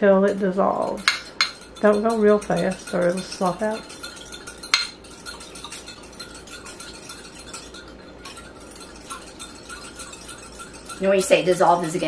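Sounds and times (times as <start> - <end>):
whisk ticking against glass: 0.3 - 12.0.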